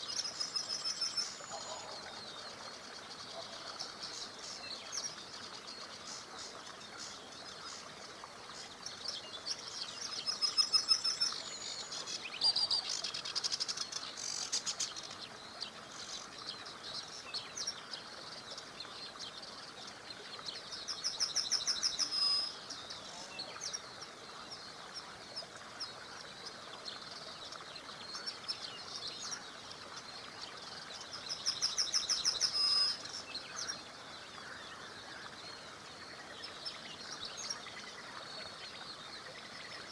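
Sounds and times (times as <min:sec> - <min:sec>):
running water of small river: 0:00.0 - 0:39.9
songbirds singing: 0:00.0 - 0:39.9.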